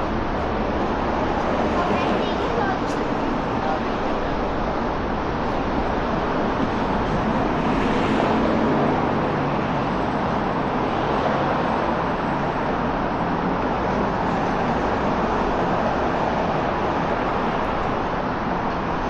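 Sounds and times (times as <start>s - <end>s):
cars passing: 0.0s - 19.0s
tyres on road: 0.0s - 19.0s.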